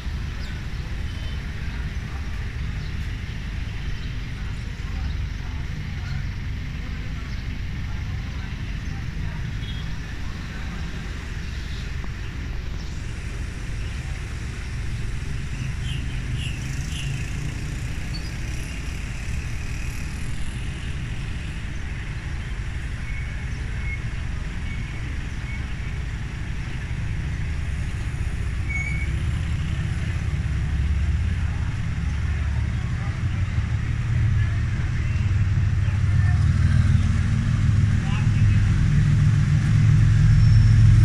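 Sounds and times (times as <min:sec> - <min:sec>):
diesel locomotive rumble: 0:00.0 - 0:41.0
motorcycles: 0:00.0 - 0:41.0
road traffic: 0:00.0 - 0:41.0.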